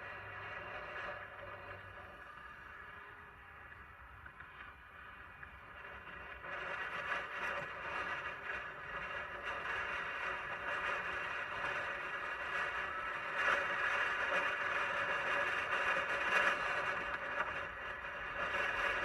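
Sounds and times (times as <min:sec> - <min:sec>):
low rumble of wind: 0:00.0 - 0:19.0.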